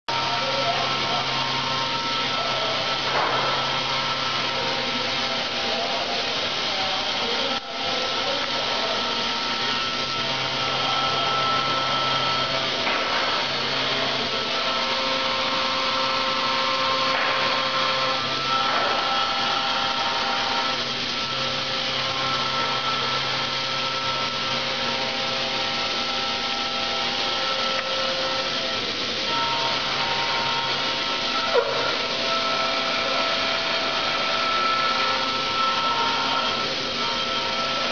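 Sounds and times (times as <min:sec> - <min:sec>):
held whine: 0:00.1 - 0:37.9.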